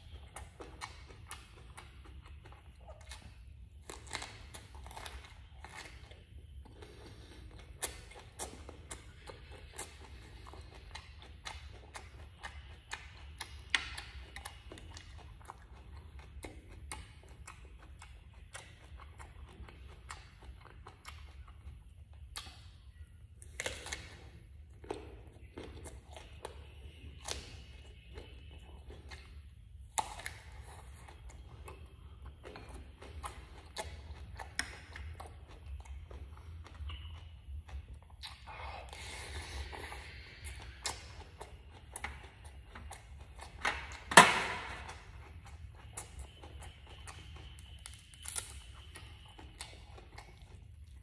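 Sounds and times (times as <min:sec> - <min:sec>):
person chewing and crunching: 0:00.0 - 0:51.0
steady low hum: 0:00.0 - 0:51.0.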